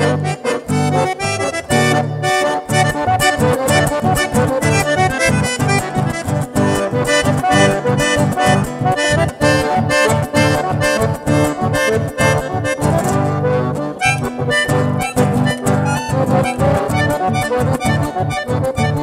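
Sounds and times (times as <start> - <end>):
acoustic guitar: 0.0 - 19.0
button accordion: 0.0 - 19.0.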